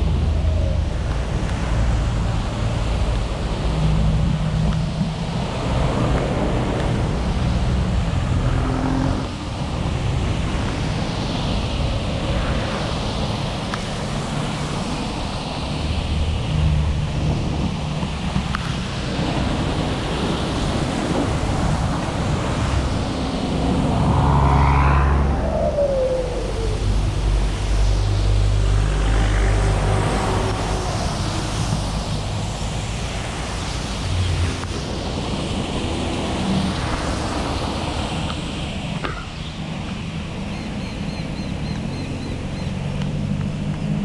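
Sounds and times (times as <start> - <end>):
rain and road spray: 0.0 - 24.9, 26.4 - 40.5
wind noise: 0.0 - 40.6
engine and tyre rumble: 0.0 - 44.0.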